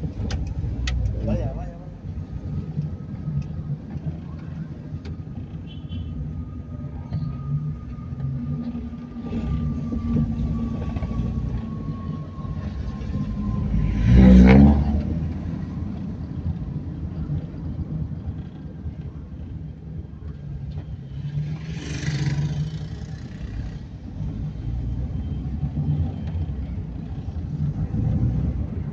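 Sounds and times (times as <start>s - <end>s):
car engine and road rumble: 0.0s - 28.9s.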